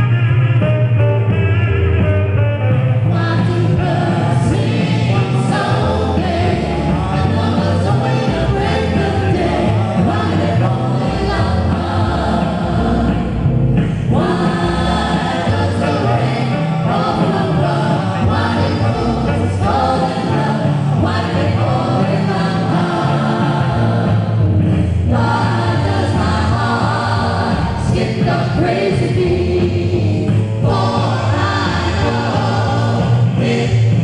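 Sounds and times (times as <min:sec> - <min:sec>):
low bass: 0:00.0 - 0:34.0
group singing into microphones: 0:03.0 - 0:34.0.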